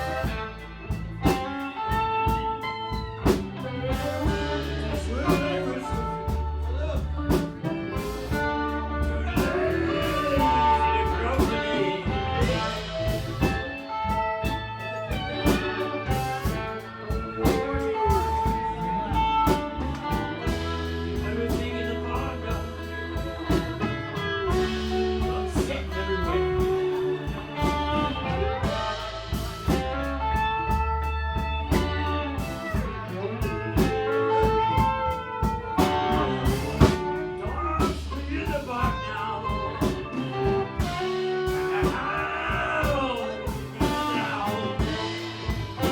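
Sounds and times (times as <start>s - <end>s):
bass: 0.0s - 45.9s
drum kit: 0.0s - 45.9s
guitar: 0.0s - 45.9s.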